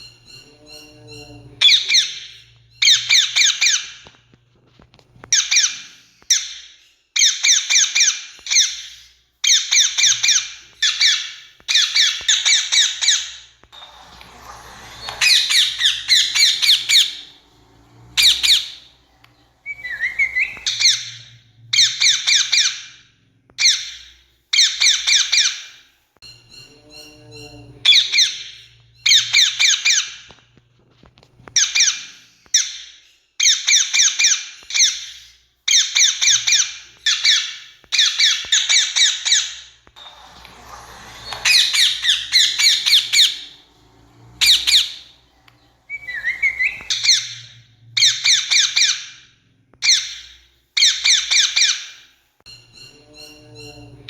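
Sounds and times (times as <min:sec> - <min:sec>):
parakeets screeching: 0:00.0 - 0:04.2, 0:05.2 - 0:30.4, 0:31.4 - 0:54.0
soft bird chirping: 0:00.0 - 0:04.4, 0:05.0 - 0:30.6, 0:31.4 - 0:54.0.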